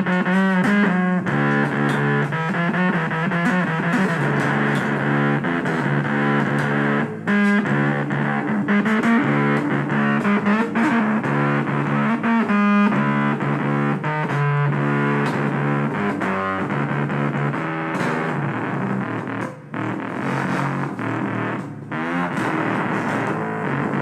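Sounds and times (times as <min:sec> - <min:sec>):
distorted electric guitar: 0:00.0 - 0:24.0.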